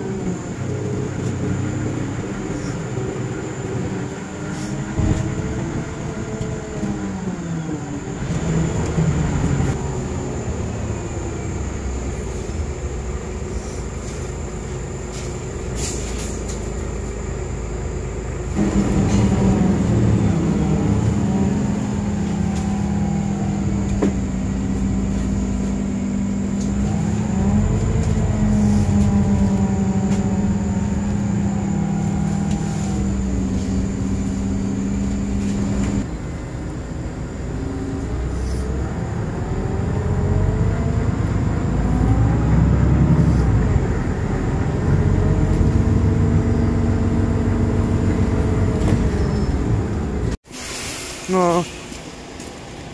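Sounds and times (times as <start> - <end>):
bus engine and drivetrain: 0.0 - 52.9.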